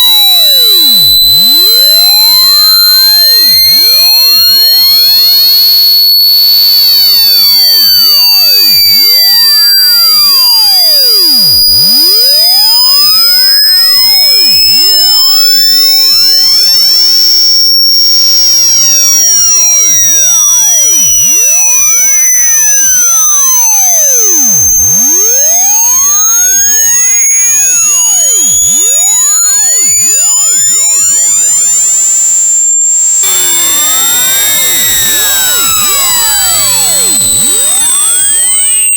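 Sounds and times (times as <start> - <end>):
high-pitched sine tone: 0.0 - 38.9.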